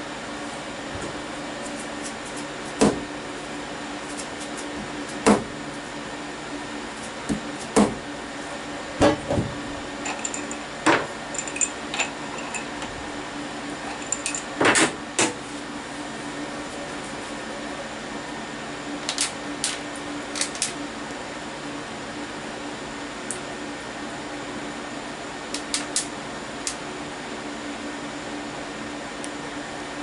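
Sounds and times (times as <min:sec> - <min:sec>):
steady machine hum: 0:00.0 - 0:30.0.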